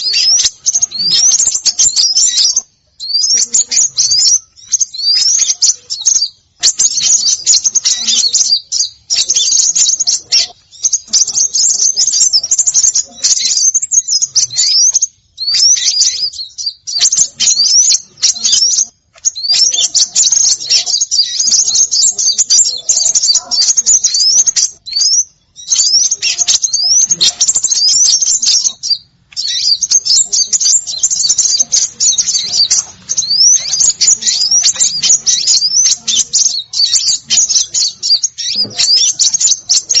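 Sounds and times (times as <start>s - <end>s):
songbirds chirping: 0.0s - 40.0s
whistled bird notes: 0.0s - 40.0s.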